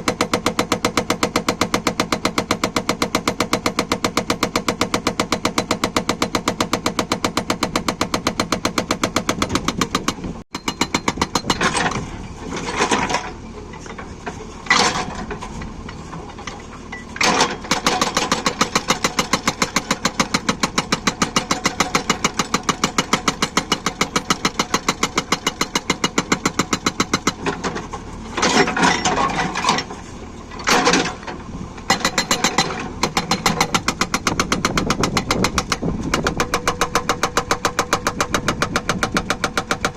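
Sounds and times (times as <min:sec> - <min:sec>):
hydraulic breaker pounding: 0:00.0 - 0:13.4, 0:17.2 - 0:39.9
diesel engine running: 0:00.0 - 0:39.9.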